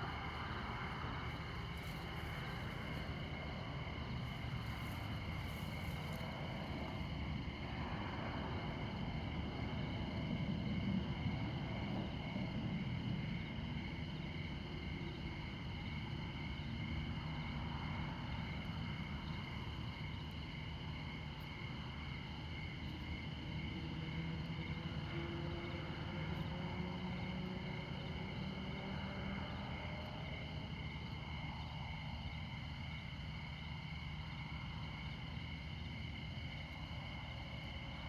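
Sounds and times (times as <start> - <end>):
crickets chirping: 0.0 - 38.0
highway traffic rumble: 0.0 - 38.0.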